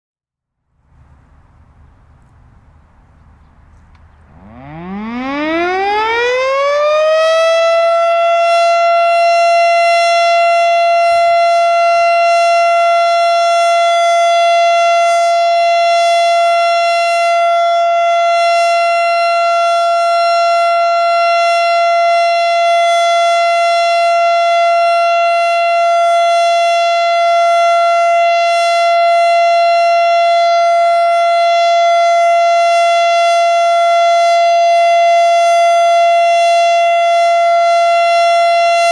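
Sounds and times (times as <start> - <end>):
outdoor warning siren: 0.5 - 38.9.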